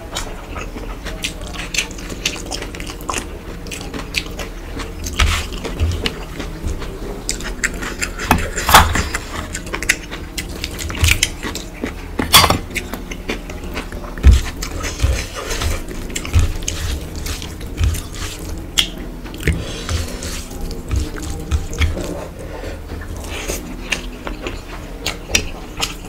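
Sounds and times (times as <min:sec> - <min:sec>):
chewing with lip smacks: 0:00.1 - 0:26.0
fingers mixing food on steel plate: 0:00.1 - 0:26.0.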